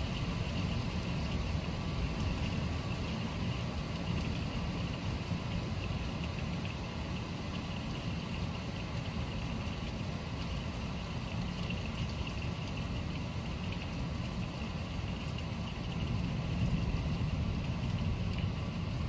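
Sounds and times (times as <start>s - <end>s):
continuous low rumble: 0.0s - 19.0s
steady rain: 0.0s - 19.0s.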